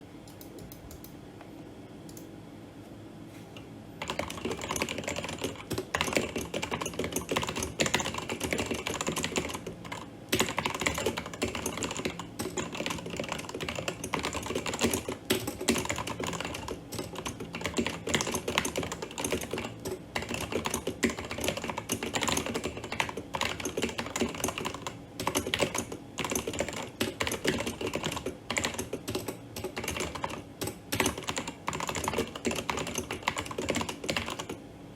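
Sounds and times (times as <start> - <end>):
fast typing on mechanical keyboard: 4.0 - 34.6.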